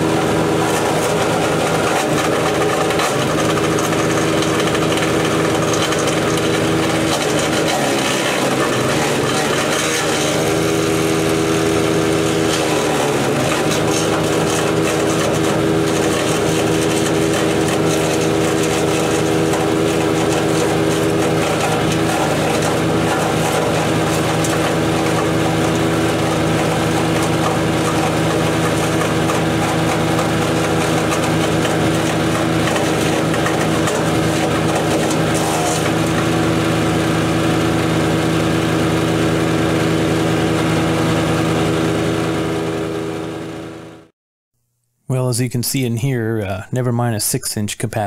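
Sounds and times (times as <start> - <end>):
wood chipper running: 0.0 - 44.1.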